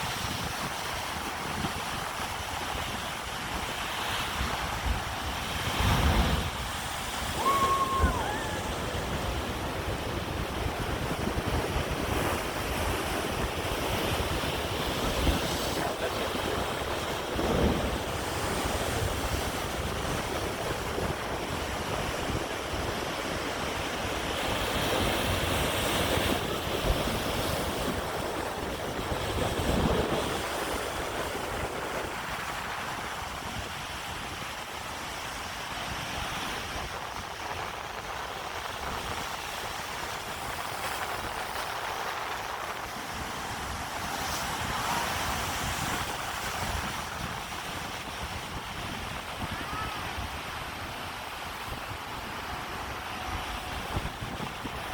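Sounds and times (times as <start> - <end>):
ocean surf on rocky shore: 0.0 - 54.9
wind buffeting microphone: 0.0 - 54.9.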